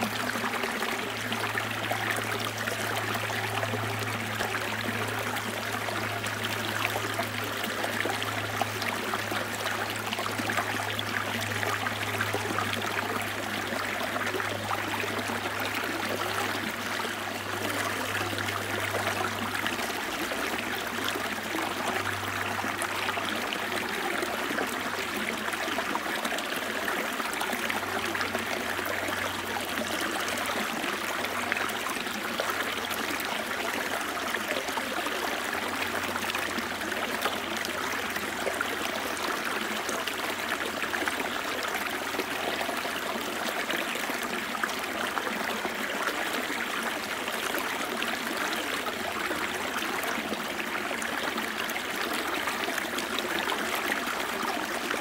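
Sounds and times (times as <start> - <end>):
stream splashing and gurgling: 0.0 - 55.0.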